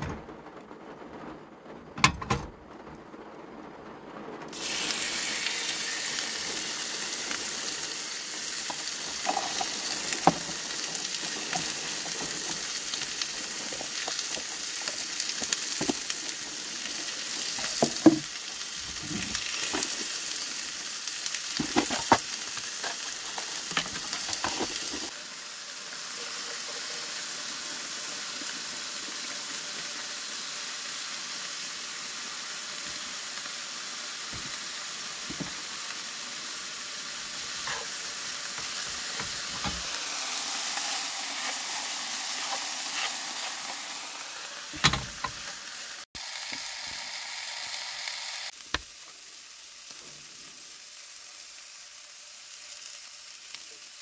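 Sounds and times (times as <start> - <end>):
chicken and onions sizzling: 4.5 - 54.0.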